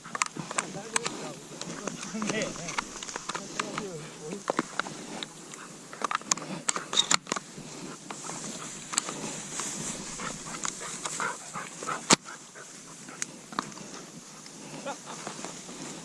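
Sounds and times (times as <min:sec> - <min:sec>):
dog panting: 0:00.0 - 0:16.0
rustling footsteps: 0:00.0 - 0:16.0.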